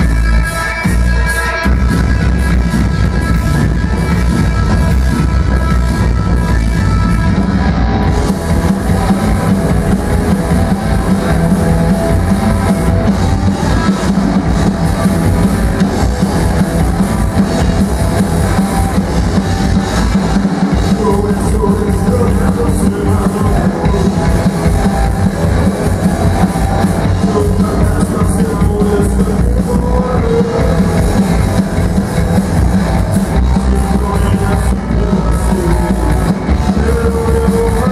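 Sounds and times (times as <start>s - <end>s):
drum kit: 0.0s - 37.9s
electric guitar: 0.0s - 37.9s
upright double bass: 0.0s - 37.9s.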